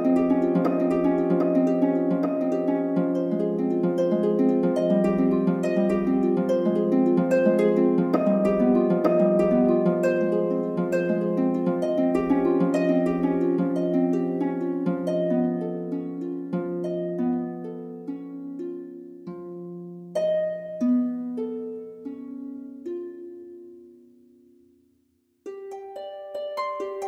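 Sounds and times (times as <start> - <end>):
harp melody: 0.0 - 27.0.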